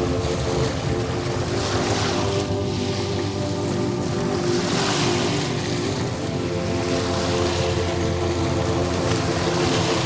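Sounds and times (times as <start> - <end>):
gentle relaxation music: 0.0 - 10.0
ocean surf: 0.0 - 10.0.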